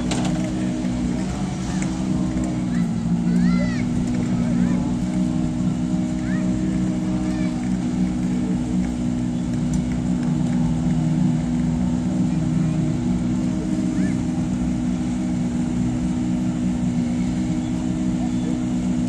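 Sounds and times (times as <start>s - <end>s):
car engines idling: 0.0s - 19.0s
spectators chatting: 0.0s - 19.0s.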